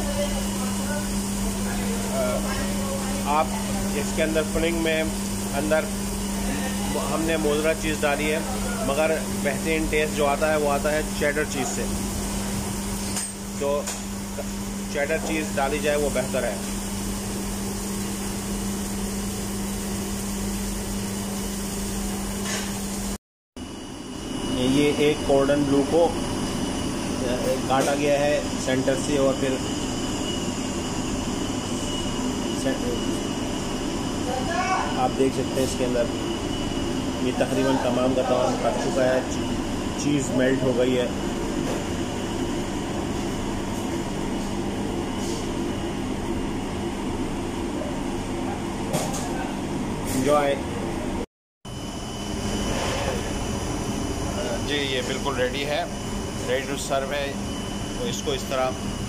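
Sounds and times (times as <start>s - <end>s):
ventilation machinery hum: 0.0s - 59.0s.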